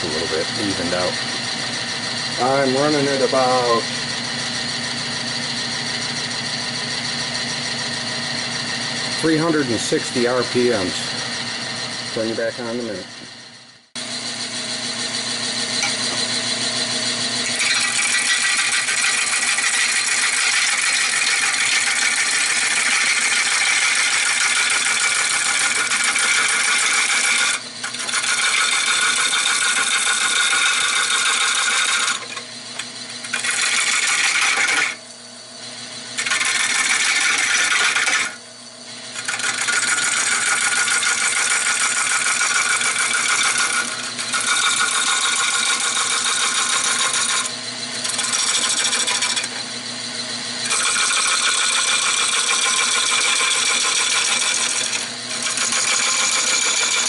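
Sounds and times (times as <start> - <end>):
lathe tool cutting wood: 0.0 - 57.0.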